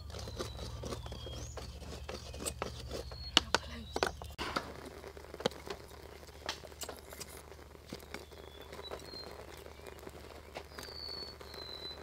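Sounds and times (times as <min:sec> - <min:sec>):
crackles of burning kindling: 0:00.0 - 0:12.0.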